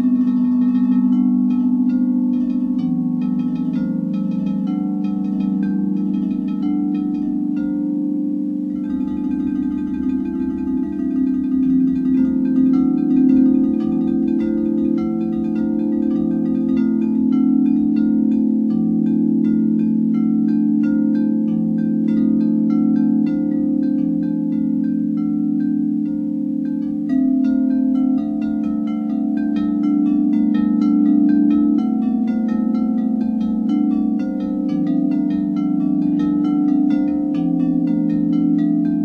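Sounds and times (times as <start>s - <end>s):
sustained hum of singing bowls: 0.0s - 39.0s.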